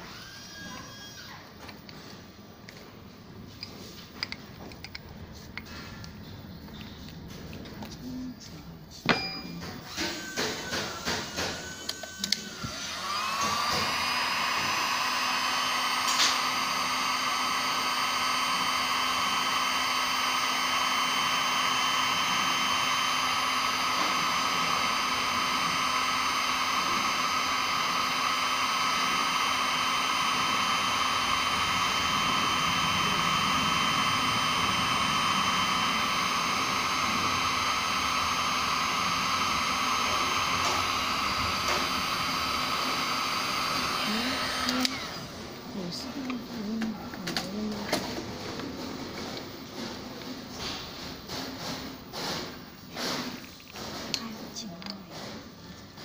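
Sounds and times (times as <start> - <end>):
heat gun whining: 0.0 - 2.1, 3.5 - 6.1, 9.0 - 56.0.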